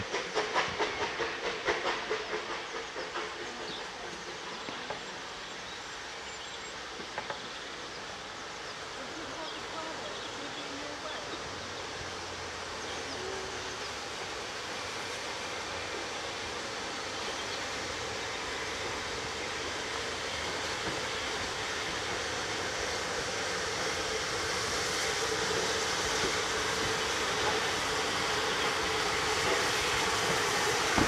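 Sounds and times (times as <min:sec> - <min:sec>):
steam locomotive rushing noise: 0:00.0 - 0:31.0.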